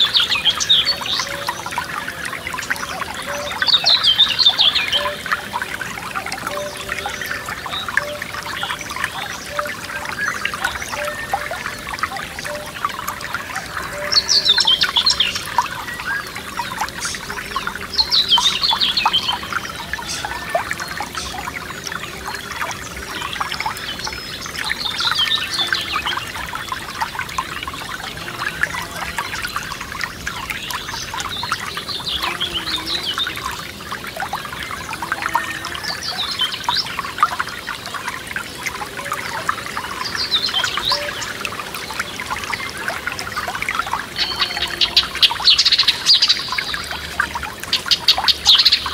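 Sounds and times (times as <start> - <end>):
forest stream babbling: 0.0 - 48.9.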